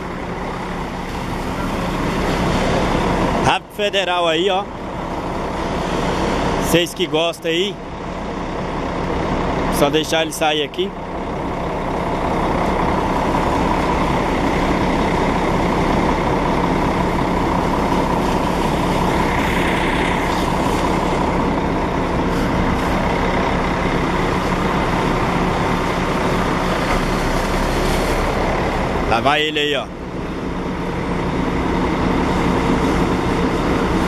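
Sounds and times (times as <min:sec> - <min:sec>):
bus diesel engine drone: 0:00.0 - 0:34.0.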